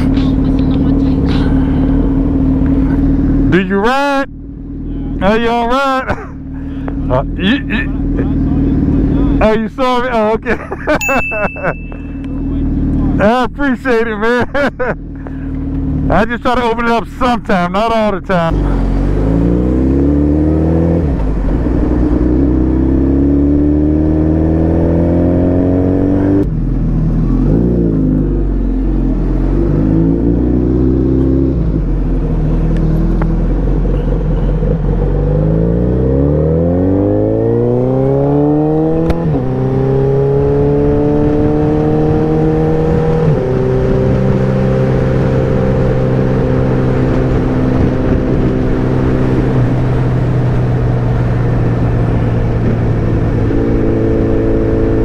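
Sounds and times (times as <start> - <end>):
motorcycle engine accelerating: 0.0 - 17.3, 18.3 - 55.0.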